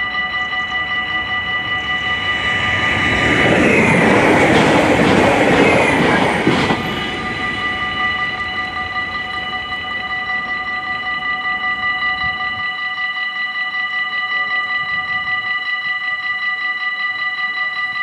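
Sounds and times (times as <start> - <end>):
level crossing bell ringing: 0.0 - 18.0
train passing: 0.0 - 18.0.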